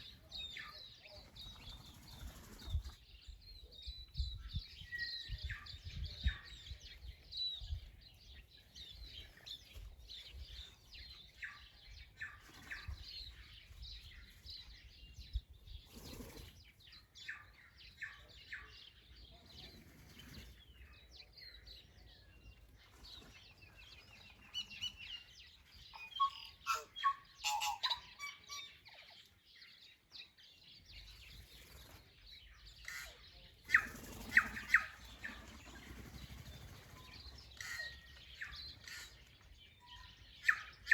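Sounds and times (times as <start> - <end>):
wild birds chirping and singing: 0.0 - 40.9.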